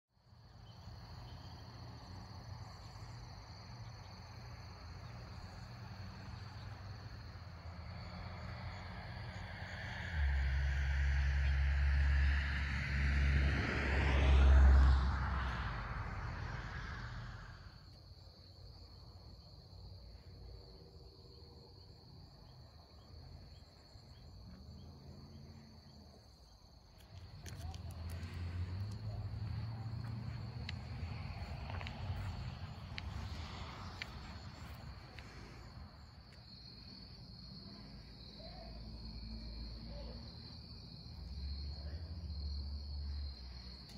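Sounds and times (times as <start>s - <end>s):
insect chorus: 0.2s - 43.9s
vehicle passing on a road: 0.4s - 43.9s.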